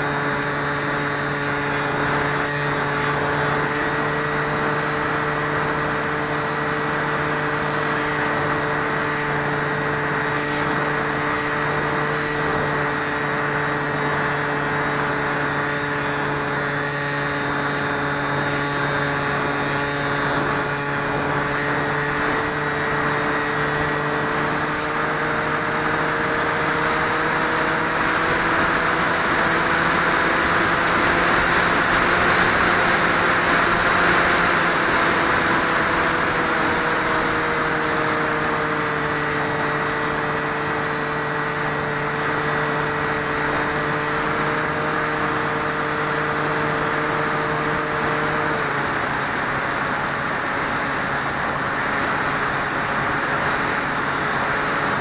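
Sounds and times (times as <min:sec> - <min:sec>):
electric motor and propeller whine: 0:00.0 - 0:55.0.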